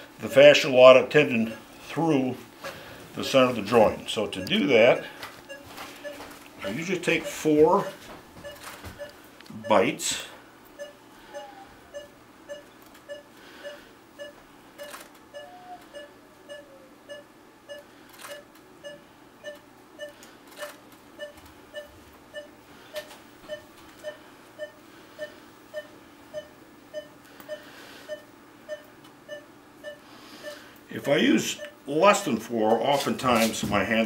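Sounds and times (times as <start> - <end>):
monitor pulse tone beeping: 1.4 - 1.8, 3.2 - 10.0, 10.8 - 31.8.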